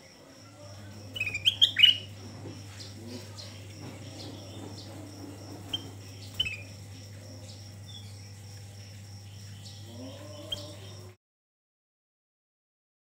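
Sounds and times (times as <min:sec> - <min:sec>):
bird chirping: 0:00.0 - 0:11.2.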